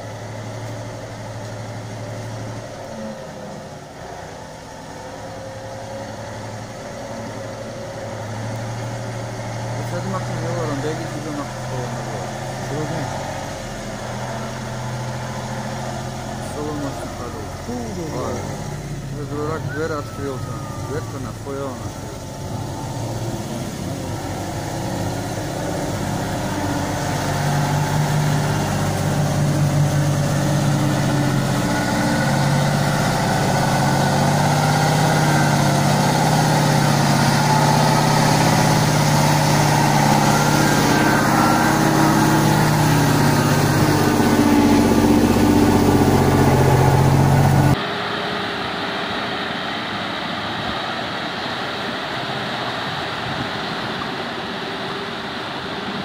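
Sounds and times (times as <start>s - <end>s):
truck diesel engine: 0.0s - 56.0s
rushing river water: 4.6s - 56.0s.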